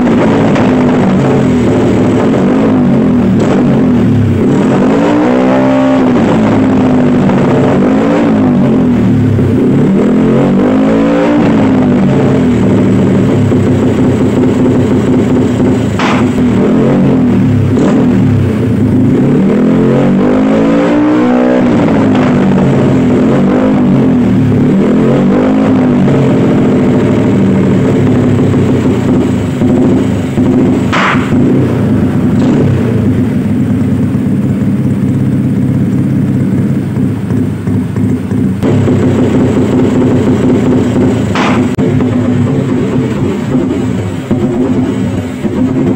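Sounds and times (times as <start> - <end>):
exhaust backfire pops: 0.0 - 4.9, 11.3 - 19.2, 21.1 - 45.9
scooter engine revving: 0.0 - 45.9.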